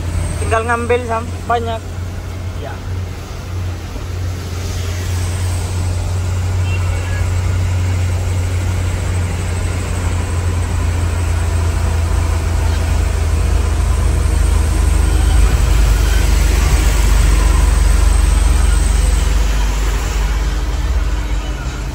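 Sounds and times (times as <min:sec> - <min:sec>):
truck engine droning: 0:00.0 - 0:21.9
tyres hissing on wet road: 0:00.0 - 0:21.9.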